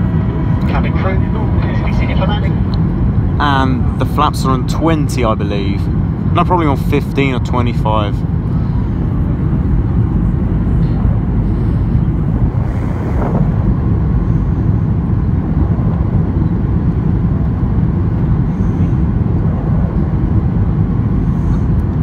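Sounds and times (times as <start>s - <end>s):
airplane cabin roar: 0.0s - 22.0s.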